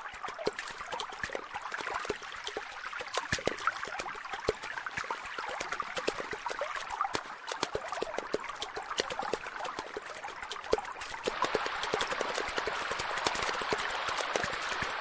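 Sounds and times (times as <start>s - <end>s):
water drips and plops: 0.0s - 15.0s
water trickling and splashing: 0.0s - 15.0s.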